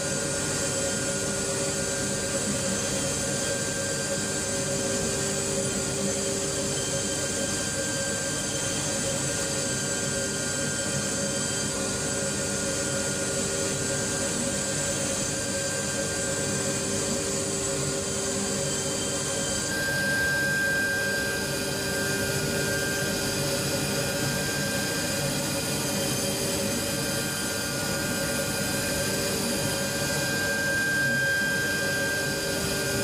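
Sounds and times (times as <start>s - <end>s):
milling machine whine and hiss: 0.0s - 33.0s.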